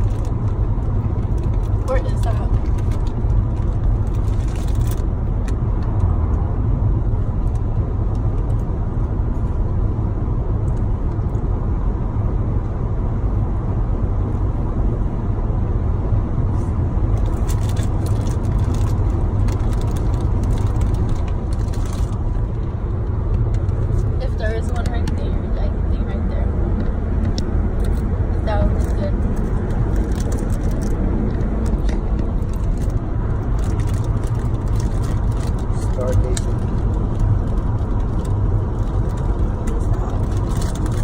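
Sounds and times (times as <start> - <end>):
car road and engine rumble: 0.0 - 41.0.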